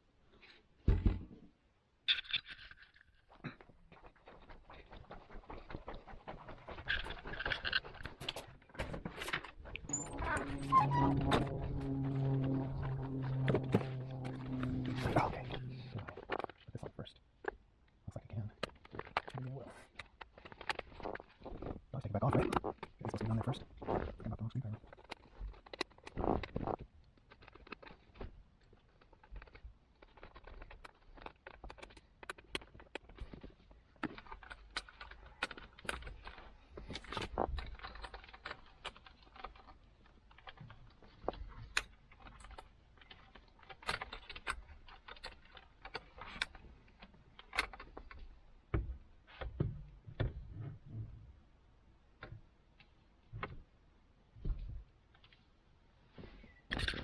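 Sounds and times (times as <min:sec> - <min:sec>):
hand tools and plastic parts clattering: 0:02.1 - 0:51.1, 0:56.2 - 0:57.0.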